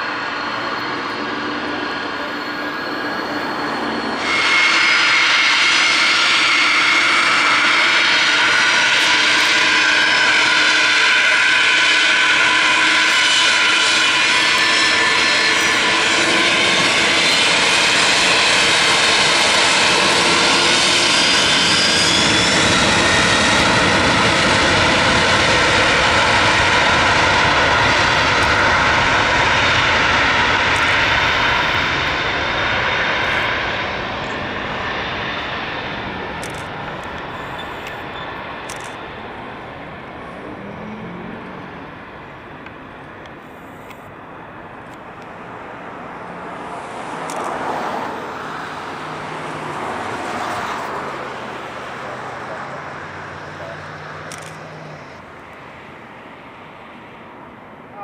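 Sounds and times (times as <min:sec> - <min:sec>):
deep rumble of jet rolling: 0:00.0 - 0:04.5, 0:12.1 - 0:57.9
jet engine roar: 0:00.0 - 0:58.0
jet engine whine: 0:00.0 - 0:58.0.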